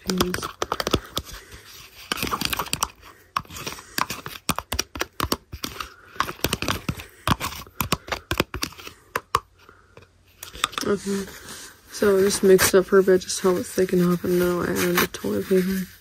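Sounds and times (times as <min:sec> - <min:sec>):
spoon scraping plastic container: 0:00.0 - 0:16.0.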